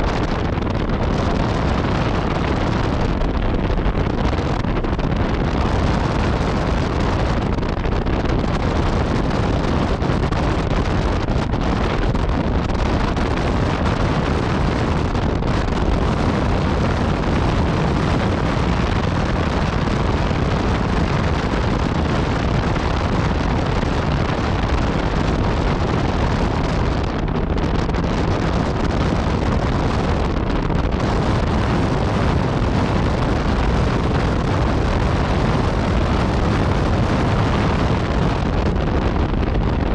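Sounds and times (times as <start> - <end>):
motorcycle engine at speed: 0.0 - 39.9
wind noise on microphone: 0.0 - 39.9.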